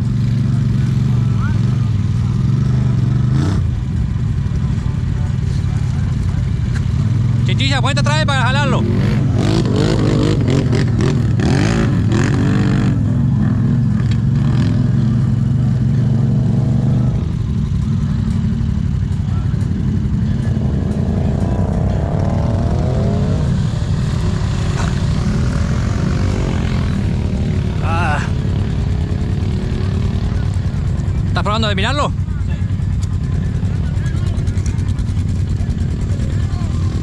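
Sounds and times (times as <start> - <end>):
atv engine running: 0.0 - 37.0.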